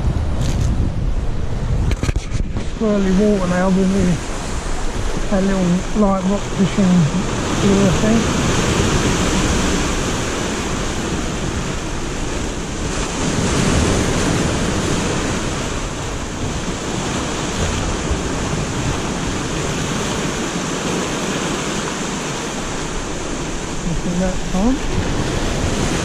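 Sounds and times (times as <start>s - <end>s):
surf breaking over rocks: 1.1s - 26.0s.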